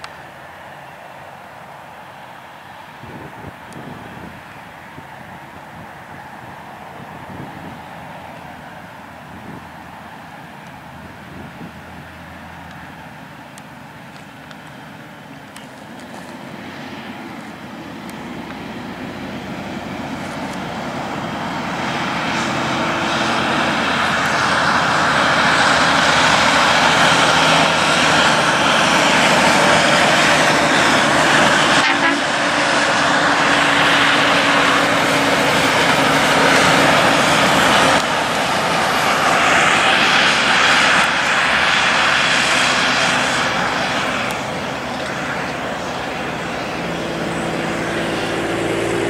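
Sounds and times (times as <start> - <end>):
diesel engines droning: 0.0 - 49.0
trucks driving past: 0.0 - 49.0
tyre and road noise: 0.0 - 49.0.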